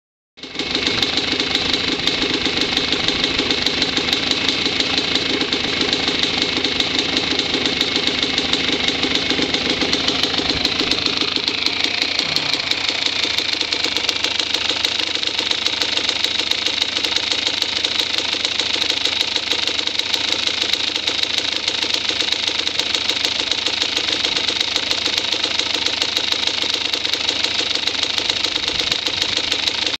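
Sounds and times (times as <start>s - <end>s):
engine running: 0.4s - 30.0s.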